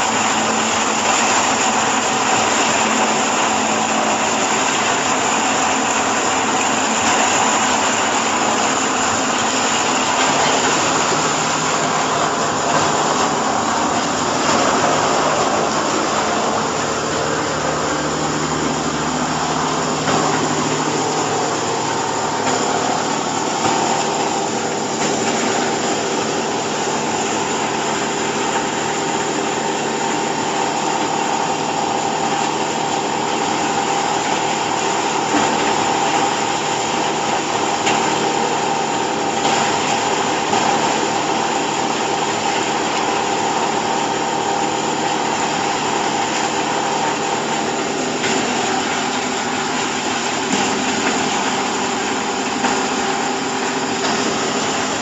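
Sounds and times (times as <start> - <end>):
hydraulic baler motor hum: 0.0 - 55.0.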